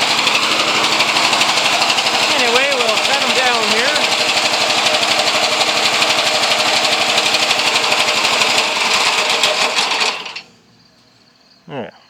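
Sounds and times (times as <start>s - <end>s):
three-cylinder engine running: 0.0s - 10.8s.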